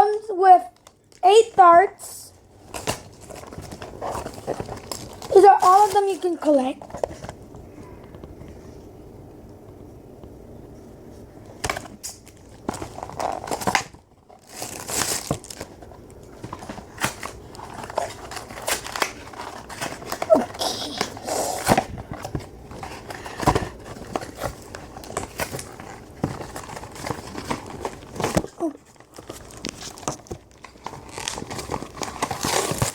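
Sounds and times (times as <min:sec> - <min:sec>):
plastic packaging crinkling: 0:02.4 - 0:07.8, 0:11.6 - 0:32.9.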